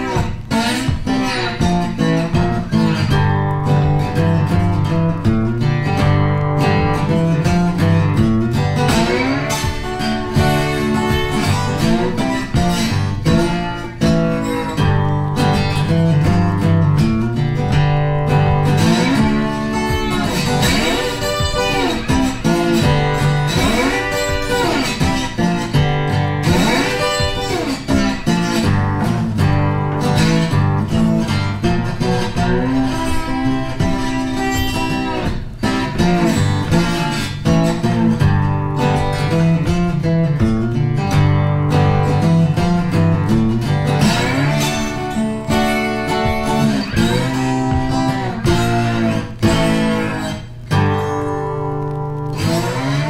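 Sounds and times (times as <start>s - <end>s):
guitar background music: 0.0s - 53.0s.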